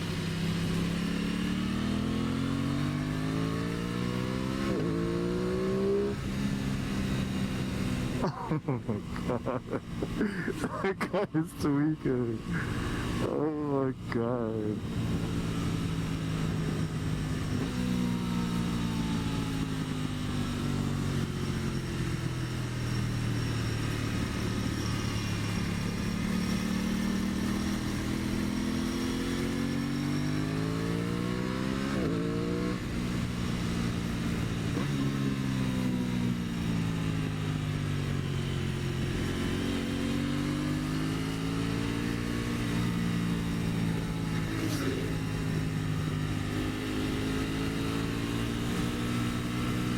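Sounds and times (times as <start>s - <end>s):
motorcycle engine revving: 0.0s - 49.9s
motorcycle engine running: 0.0s - 49.9s.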